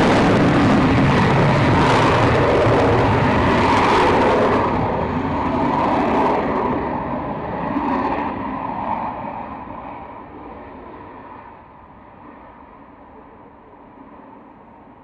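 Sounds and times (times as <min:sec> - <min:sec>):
jet aircraft engine noise: 0:00.0 - 0:15.0.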